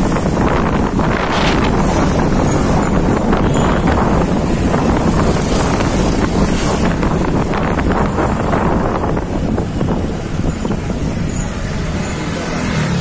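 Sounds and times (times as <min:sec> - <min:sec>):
road noise: 0:00.0 - 0:13.0
vehicle running: 0:00.0 - 0:13.0
wind buffeting microphone: 0:00.0 - 0:13.0.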